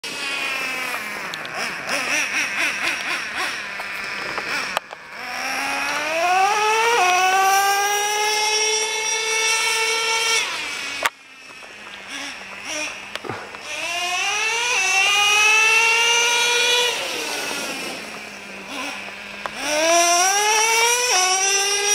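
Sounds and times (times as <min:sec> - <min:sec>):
remote-control car whining: 0:00.0 - 0:21.9.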